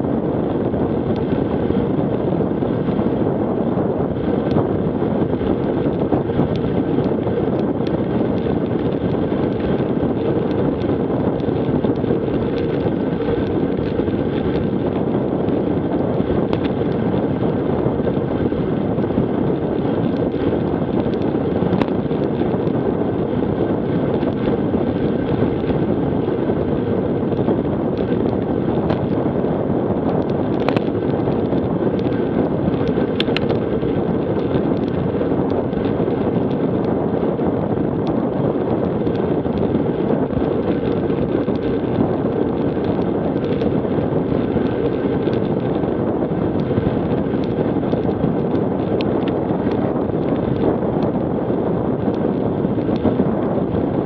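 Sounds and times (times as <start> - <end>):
tyre noise on asphalt: 0.0 - 54.0
wind rushing over microphone: 0.0 - 54.0.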